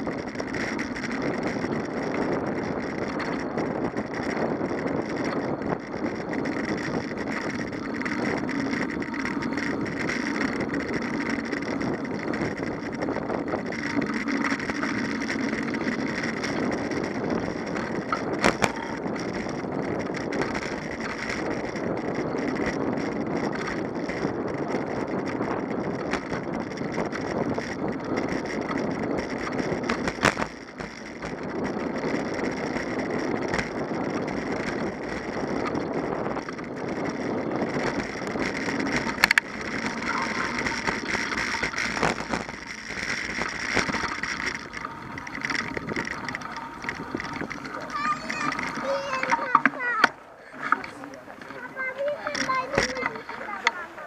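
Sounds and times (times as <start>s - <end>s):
bicycle rattle: 0.0s - 54.0s
bicycle tyres rolling on road: 0.0s - 54.0s
wind: 0.0s - 54.0s.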